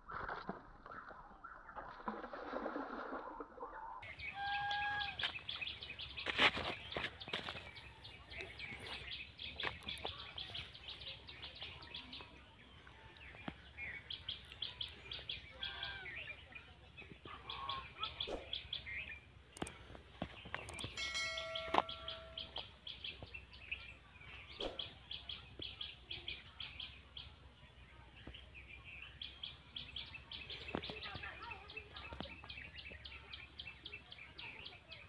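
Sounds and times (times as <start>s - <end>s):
small birds chirping: 4.0s - 35.0s.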